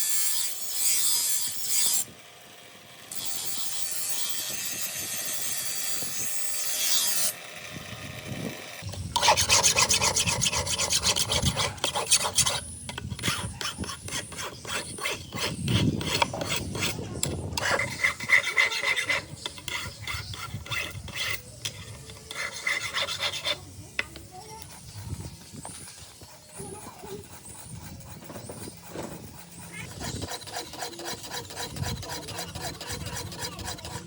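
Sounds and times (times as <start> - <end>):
file scraping steel: 0.0 - 2.1, 3.1 - 7.4, 8.8 - 34.0.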